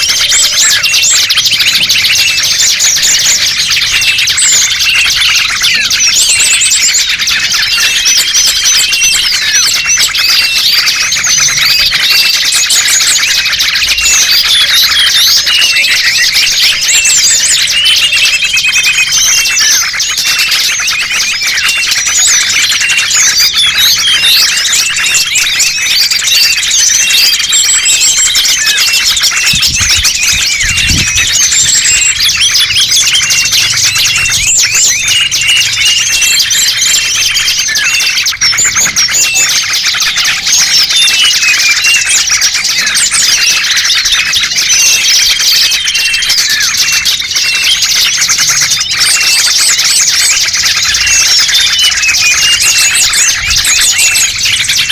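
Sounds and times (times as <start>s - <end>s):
small birds chirping and twittering: 0.0s - 54.9s.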